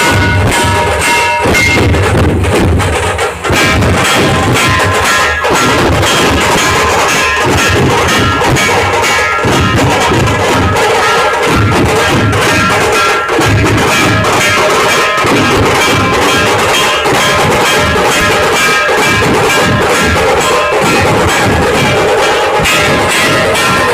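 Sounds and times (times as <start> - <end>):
large drums beating: 0.0 - 23.9
rapid sharp drum strokes: 0.0 - 23.9.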